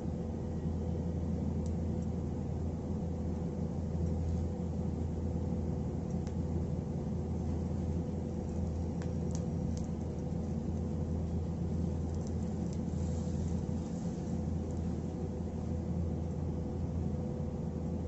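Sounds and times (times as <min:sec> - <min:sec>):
low hum and rumble: 0:00.0 - 0:18.0.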